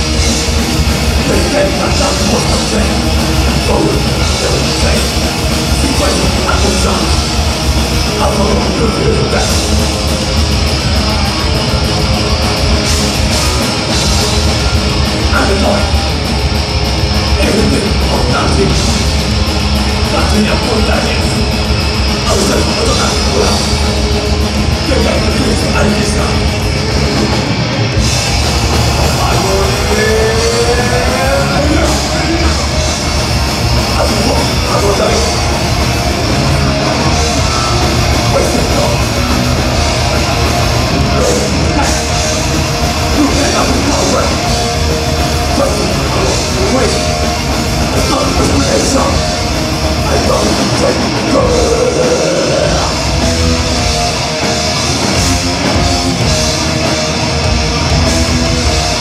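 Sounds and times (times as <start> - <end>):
thrash metal band playing: 0.0 - 59.0.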